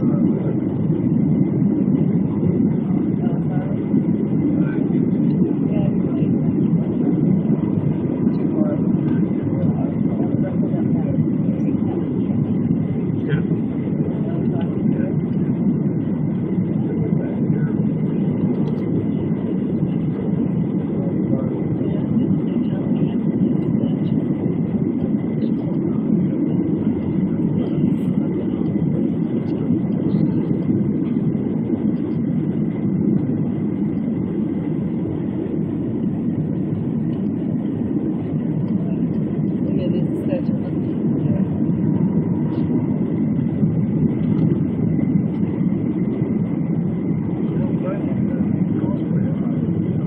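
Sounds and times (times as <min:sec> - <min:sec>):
airliner cabin engine roar: 0:00.0 - 0:50.0
faint steady whine: 0:00.0 - 0:50.0.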